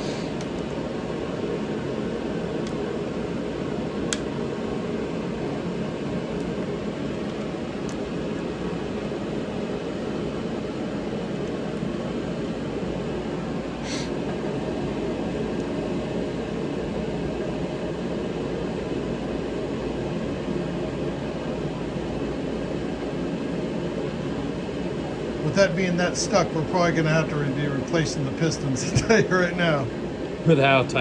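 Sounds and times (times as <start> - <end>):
mechanical droning: 0.0 - 31.0.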